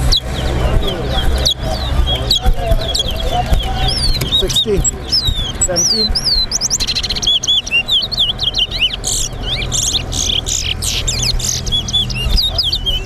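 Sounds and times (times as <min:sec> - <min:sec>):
finches singing whistled notes: 0:00.0 - 0:13.0.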